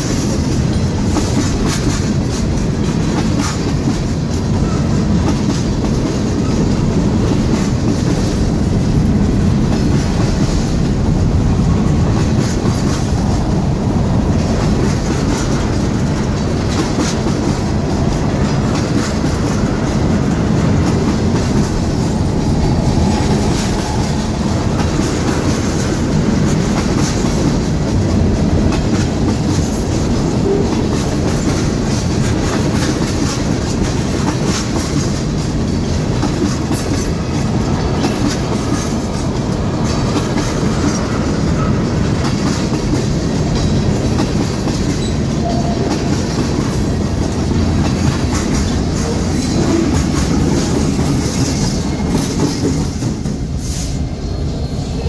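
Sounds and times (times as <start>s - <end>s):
wheels clicking over rail joints: 0.0s - 53.6s
train wheels rolling on rail: 0.0s - 55.0s.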